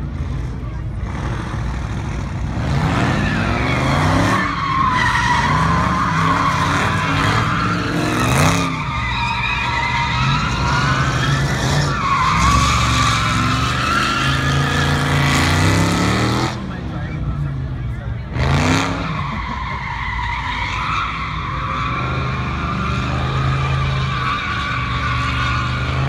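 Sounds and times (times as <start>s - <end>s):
car engine revving: 0.0s - 26.0s
tires squealing: 0.0s - 26.0s.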